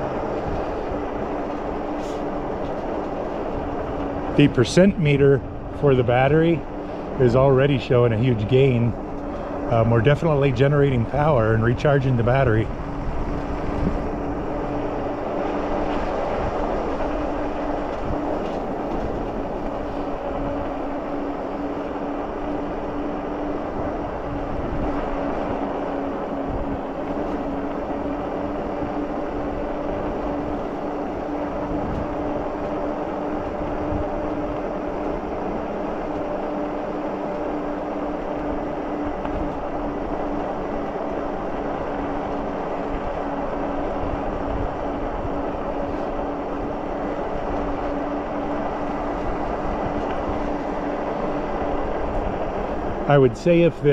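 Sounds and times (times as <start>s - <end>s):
electric motor hum: 0.0s - 53.9s
tyre and wind noise: 0.0s - 53.9s.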